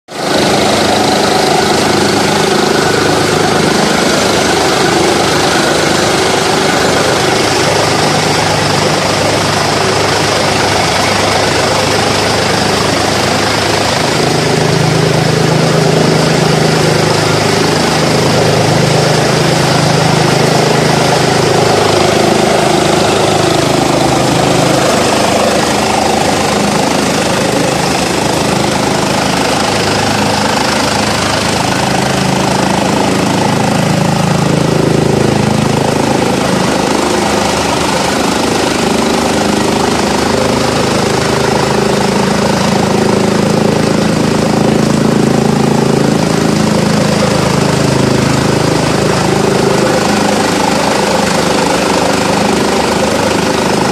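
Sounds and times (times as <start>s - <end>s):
chaff cutter chopping fodder: 0.1s - 53.9s
engine hum: 0.1s - 53.9s.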